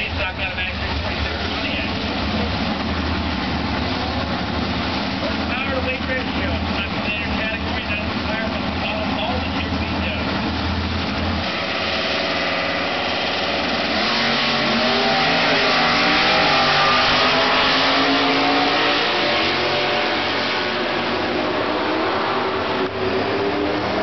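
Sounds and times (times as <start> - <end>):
drag racing cars accelerating: 0.0 - 24.0.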